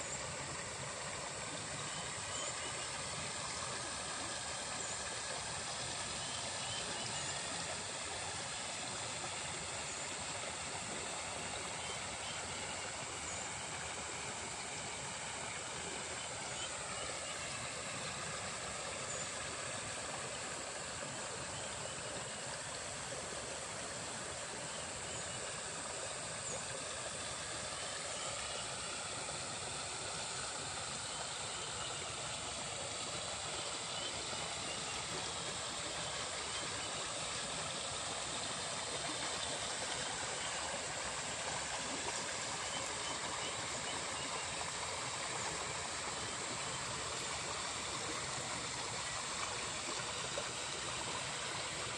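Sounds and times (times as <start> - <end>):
water pouring into pond: 0.0 - 51.9.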